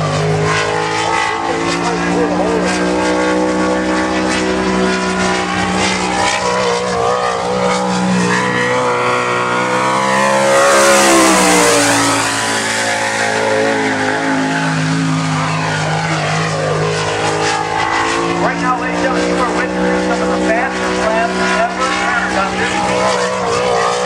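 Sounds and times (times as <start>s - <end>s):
sprint car engine passing by: 0.0s - 24.0s.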